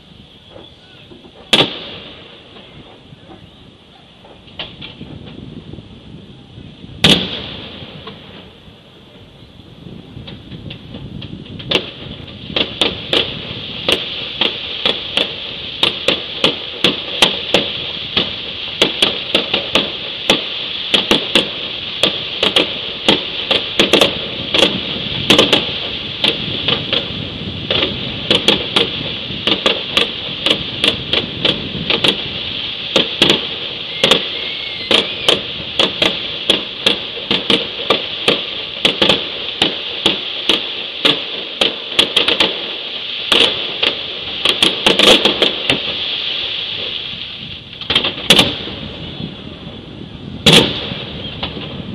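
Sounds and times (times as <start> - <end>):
fireworks bangs and pops: 0.0 - 51.9
steady hiss: 0.0 - 51.9.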